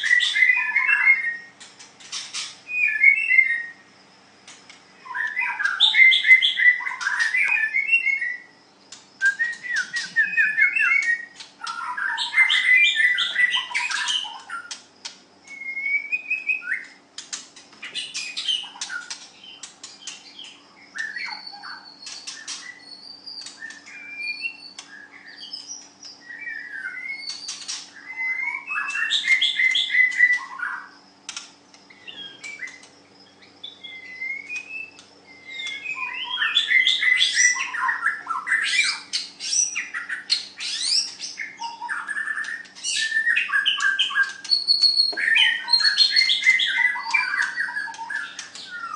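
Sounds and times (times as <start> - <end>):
songbird singing whistles and trills: 0.0 - 1.6, 2.3 - 4.0, 5.0 - 14.8, 15.4 - 17.0, 17.8 - 48.9.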